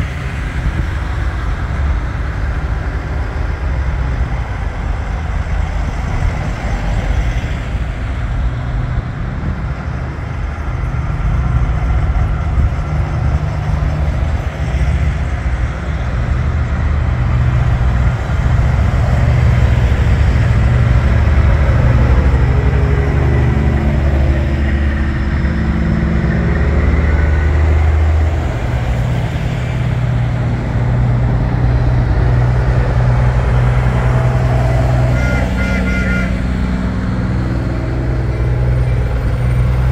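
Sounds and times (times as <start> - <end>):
semi truck diesel engines rumbling: 0.0 - 39.9.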